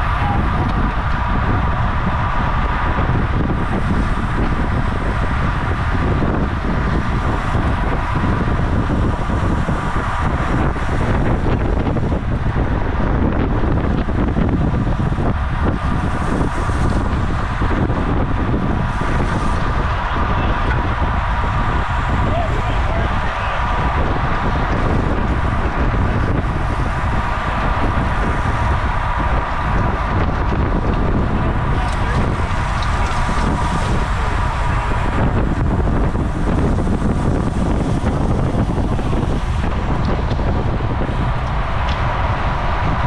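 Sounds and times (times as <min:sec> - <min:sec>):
steady high hum: 0:00.0 - 0:43.0
wind rushing over microphone: 0:00.0 - 0:43.0.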